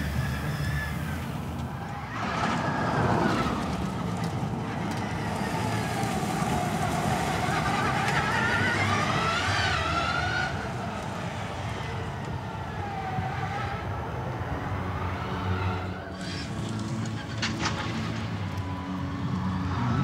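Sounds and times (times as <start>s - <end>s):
electric car motor whining: 0.0s - 20.0s.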